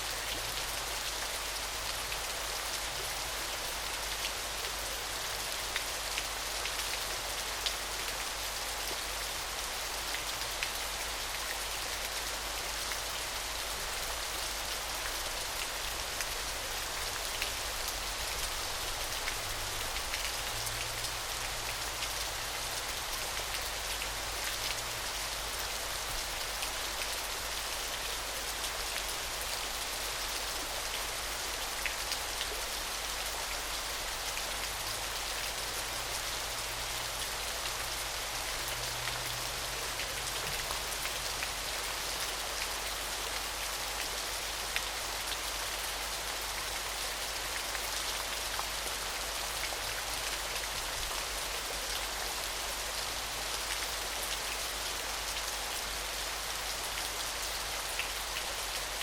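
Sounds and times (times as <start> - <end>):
small waterfall splashing: 0.0 - 59.0.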